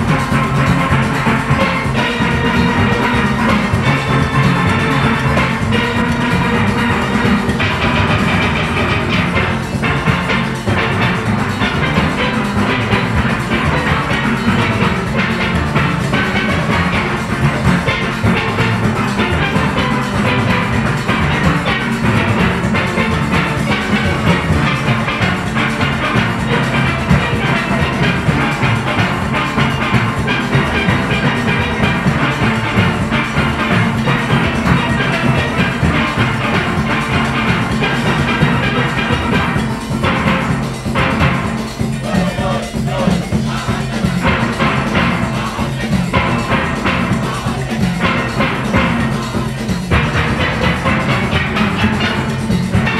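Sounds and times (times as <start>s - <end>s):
drums and percussion rhythm: 0.0s - 52.9s
steel band playing: 0.0s - 52.9s.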